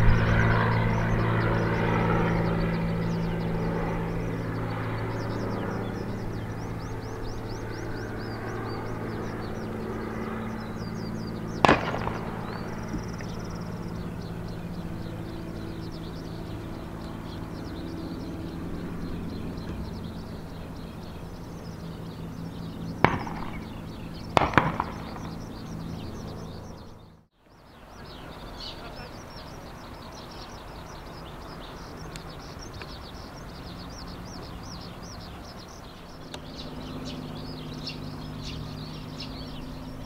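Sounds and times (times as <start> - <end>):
bird chirping: 0.0 - 40.0
propeller plane engine droning: 0.0 - 40.0.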